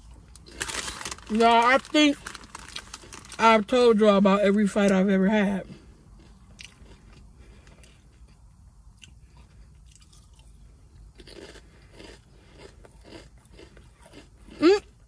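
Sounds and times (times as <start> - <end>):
potato chips crunching: 0.0 - 3.9, 5.6 - 8.4, 9.0 - 15.0.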